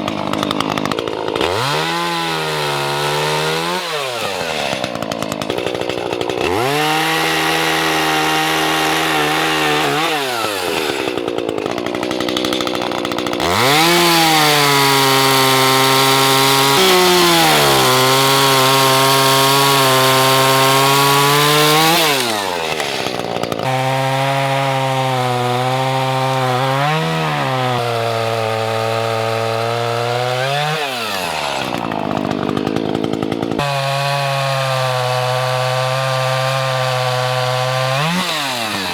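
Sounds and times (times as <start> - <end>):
chainsaw cutting branches: 0.0 - 38.9.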